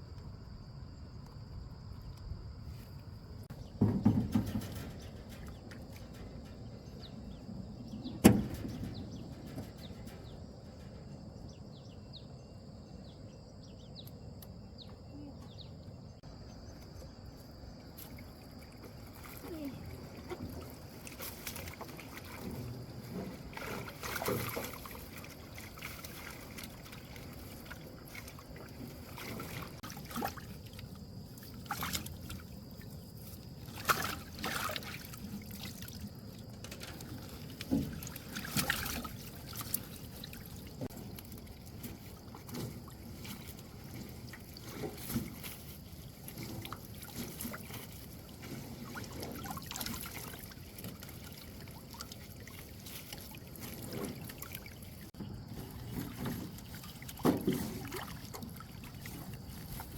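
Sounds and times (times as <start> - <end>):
water sloshing around a boat: 0.0 - 59.9
splashes and knocks: 3.4 - 11.1, 17.9 - 59.9.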